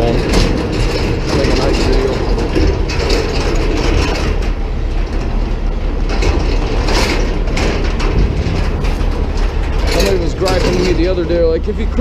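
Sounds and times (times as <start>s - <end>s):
rattly mechanical clatter: 0.0s - 12.0s
truck engine rumbling: 0.0s - 12.0s.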